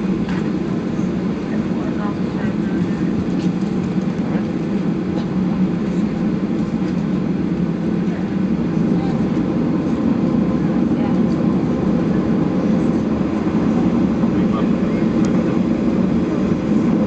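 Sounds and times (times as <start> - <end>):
jet engines and airflow rumble: 0.0 - 17.0.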